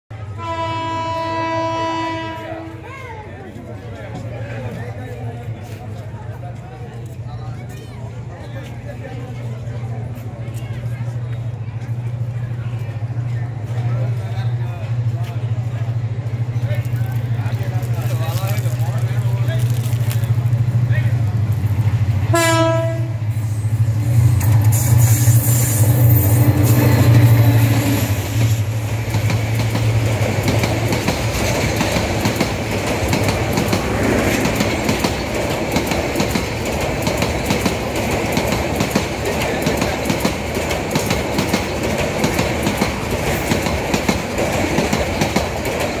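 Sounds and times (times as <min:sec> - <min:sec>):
diesel locomotive engine drone: 0:00.1 - 0:46.0
train wheels clickety-clack: 0:03.6 - 0:46.0
rushing wheel noise: 0:09.2 - 0:46.0.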